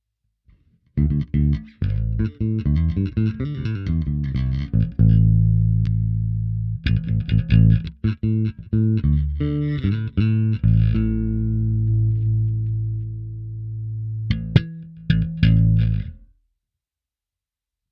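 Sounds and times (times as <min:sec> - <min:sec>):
electric bass with auto-wah: 0:01.0 - 0:16.2.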